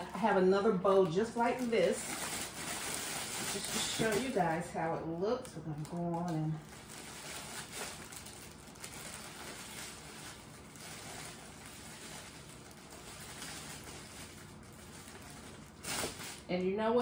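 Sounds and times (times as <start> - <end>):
cellophane crinkling: 0.0 - 16.6.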